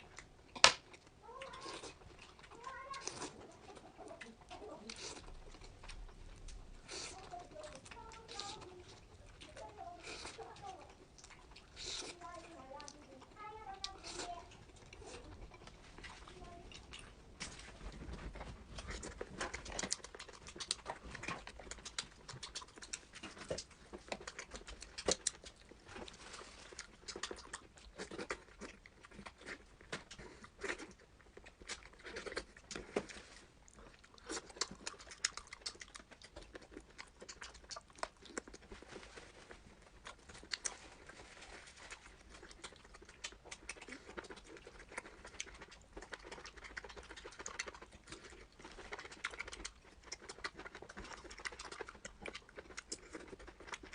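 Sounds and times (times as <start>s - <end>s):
chewing and mouth sounds: 0.0s - 53.9s.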